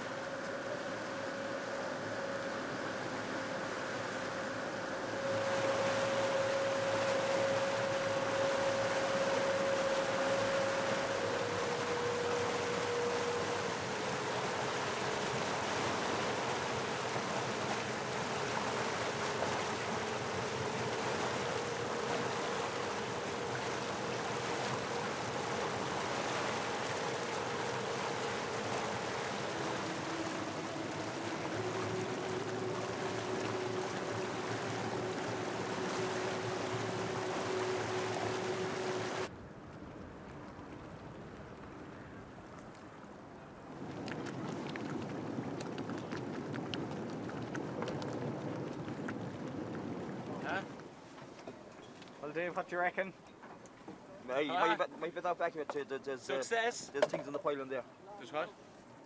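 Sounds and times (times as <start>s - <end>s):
outboard engine whine: 0.0s - 59.0s
rush of wind and water: 0.0s - 59.0s.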